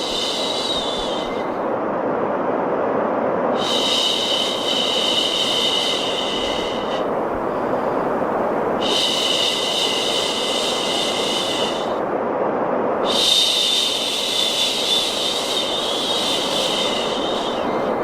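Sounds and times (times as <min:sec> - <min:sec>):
low rushing noise: 0:00.0 - 0:18.0.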